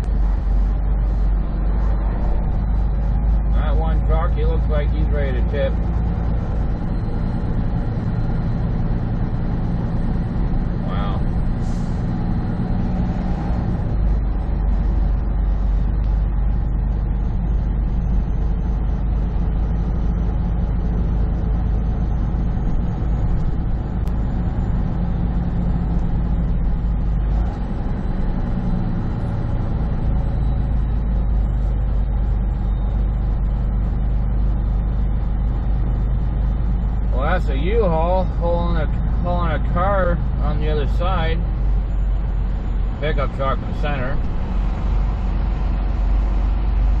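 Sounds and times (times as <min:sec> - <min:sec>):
road noise: 0:00.0 - 0:47.0
truck diesel engine drone: 0:00.0 - 0:47.0.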